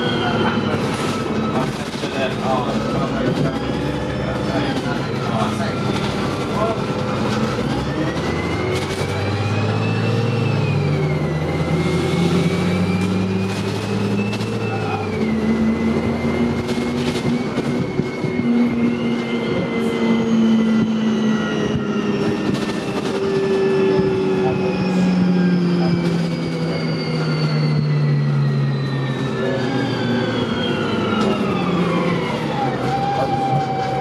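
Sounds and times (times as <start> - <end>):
bus engine accelerating: 0.0 - 34.0
transmission whine: 0.0 - 34.0.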